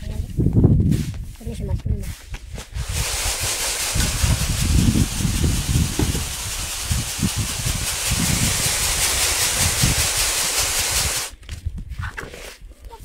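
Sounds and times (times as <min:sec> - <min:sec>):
wind buffeting microphone: 0:00.0 - 0:13.0
grain rustling in a sieve: 0:00.9 - 0:11.4.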